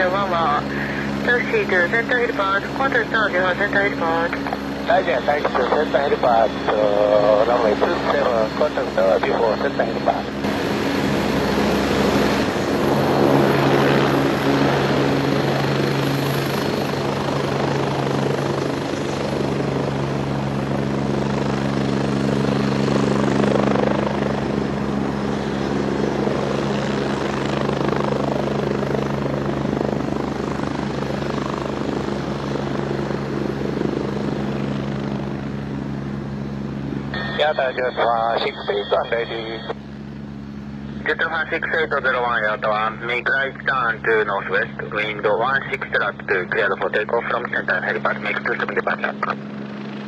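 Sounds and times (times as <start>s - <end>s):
helicopter rotor and turbines: 0.0s - 50.0s.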